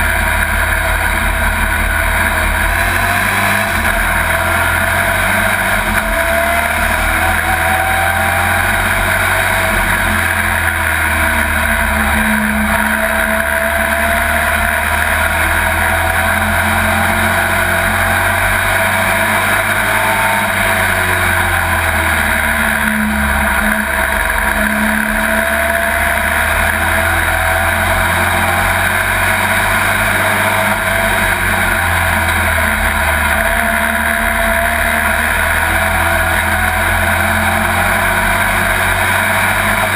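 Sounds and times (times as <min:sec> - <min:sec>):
race truck engine running hard: 0:00.0 - 0:39.9.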